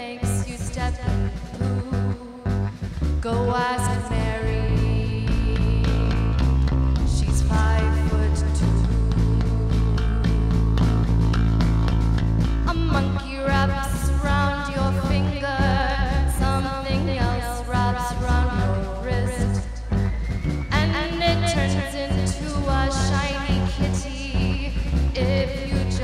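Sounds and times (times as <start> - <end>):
woman singing: 0.0 - 10.7, 12.7 - 20.1, 20.7 - 26.0.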